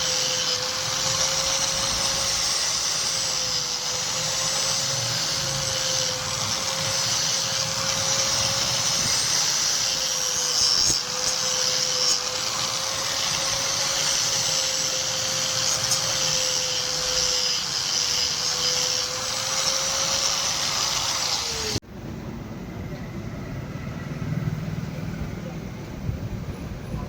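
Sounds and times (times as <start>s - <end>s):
electric grinder whining: 0.0s - 21.8s.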